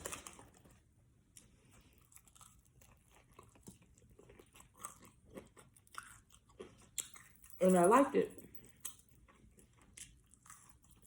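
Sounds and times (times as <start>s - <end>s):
person chewing food: 0.0s - 7.6s, 8.6s - 11.0s.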